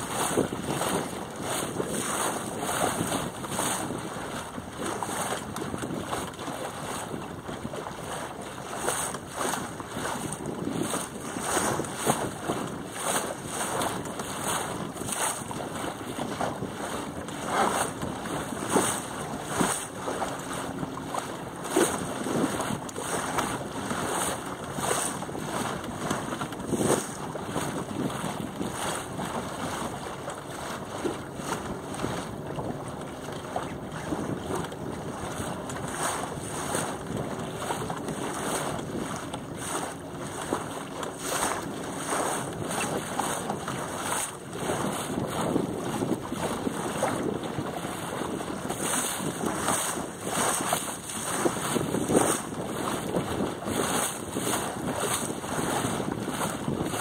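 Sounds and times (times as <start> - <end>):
water splashing against hull: 0.0 - 57.0
wind noise on microphone: 0.0 - 57.0.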